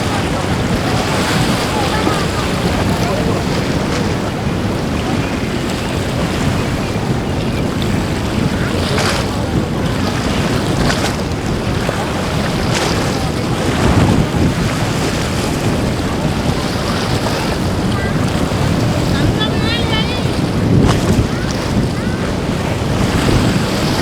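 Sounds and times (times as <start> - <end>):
boat noise: 0.0 - 24.0
rushing surf: 0.0 - 24.0
short water splashes: 0.0 - 24.0
wind buffeting microphone: 0.0 - 24.0.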